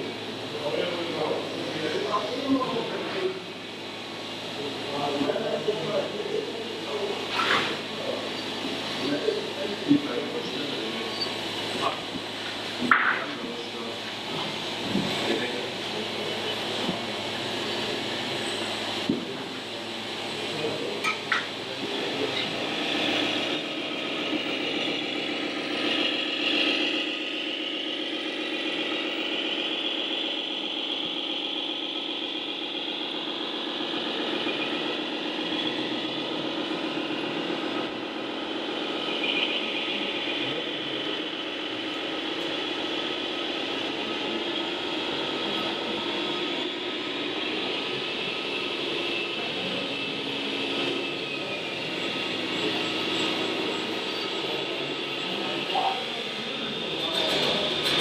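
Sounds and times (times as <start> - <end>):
model truck motor humming: 0.0 - 58.0.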